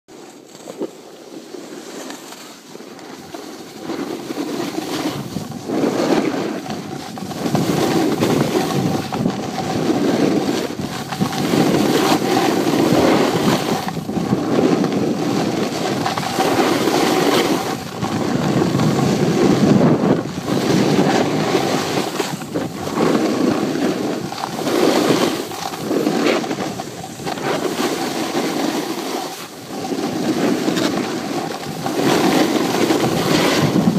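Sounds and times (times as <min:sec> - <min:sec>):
skis scraping on snow: 0:00.1 - 0:33.9
wind on microphone: 0:03.2 - 0:33.9.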